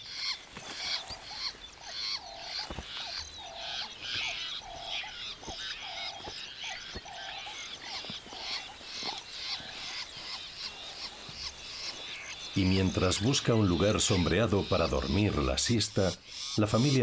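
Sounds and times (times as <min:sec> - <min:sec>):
lower bird calls: 0:00.0 - 0:17.0.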